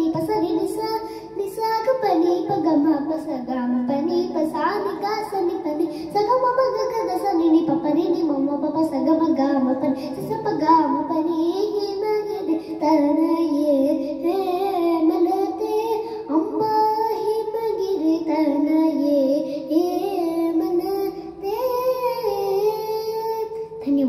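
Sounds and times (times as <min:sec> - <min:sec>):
girl singing: 0:00.0 - 0:24.0.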